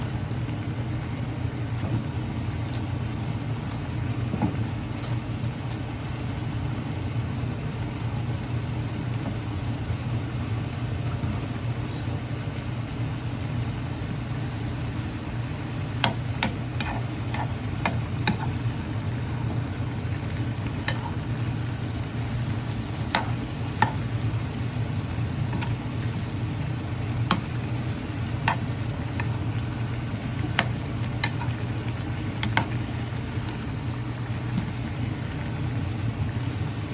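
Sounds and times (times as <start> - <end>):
cooking in a pan: 0.0 - 36.9
steady low hum: 0.0 - 36.9.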